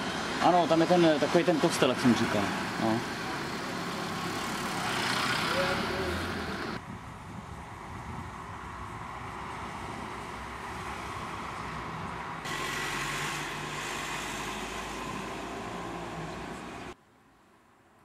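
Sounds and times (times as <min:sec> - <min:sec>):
vehicle passing: 0:00.0 - 0:06.8, 0:07.7 - 0:17.0
steady road traffic: 0:00.0 - 0:18.0.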